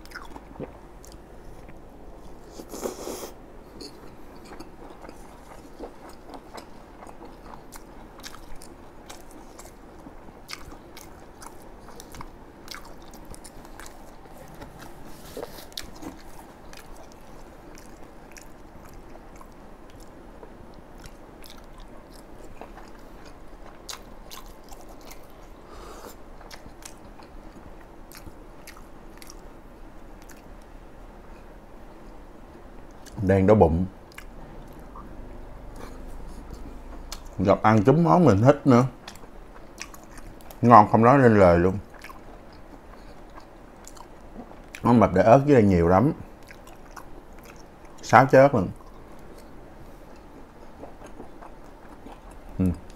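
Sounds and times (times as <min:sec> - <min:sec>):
person chewing food: 0:00.0 - 0:29.5, 0:30.1 - 0:30.7, 0:34.0 - 0:37.4, 0:39.0 - 0:40.6, 0:41.8 - 0:44.8, 0:46.2 - 0:48.0, 0:48.8 - 0:52.9.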